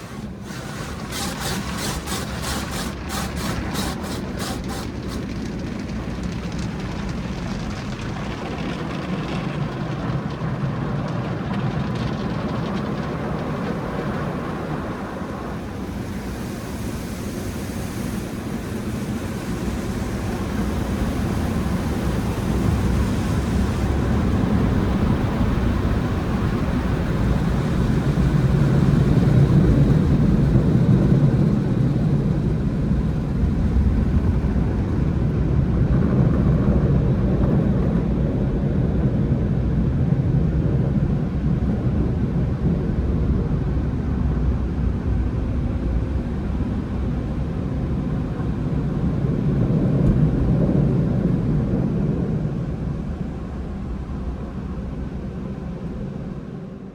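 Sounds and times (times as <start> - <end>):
car wash equipment rushing: 0.0 - 56.9.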